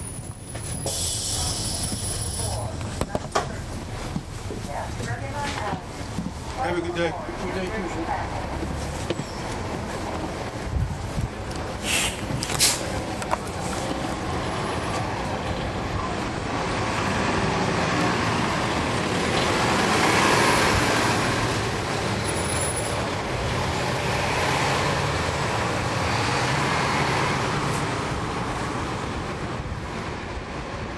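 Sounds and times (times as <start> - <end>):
bus diesel engine running: 0.0 - 30.9
road noise: 0.0 - 30.9.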